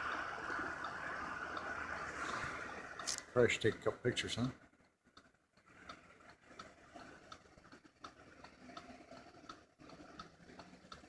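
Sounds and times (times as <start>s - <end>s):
soft ticks: 0.0s - 2.1s, 2.9s - 4.0s, 4.8s - 11.0s.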